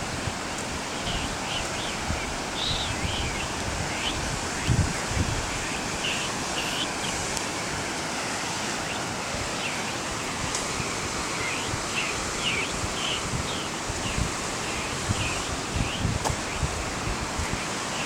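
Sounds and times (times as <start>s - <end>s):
river rapids rushing: 0.0s - 18.0s.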